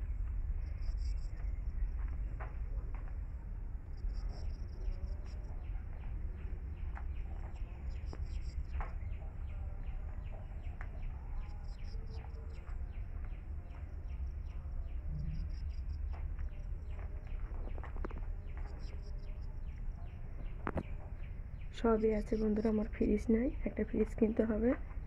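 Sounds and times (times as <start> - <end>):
steady low rumble: 0.0 - 25.0
birds chirping: 4.0 - 25.0.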